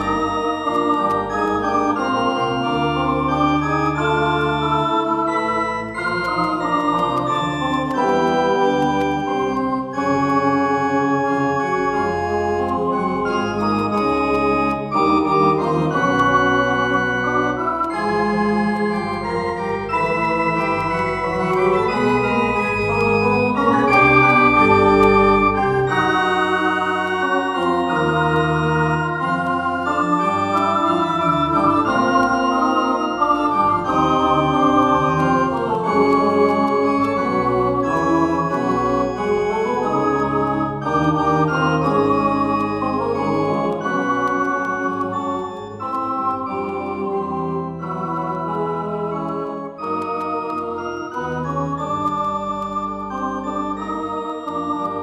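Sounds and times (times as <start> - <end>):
organ music: 0.0 - 55.0.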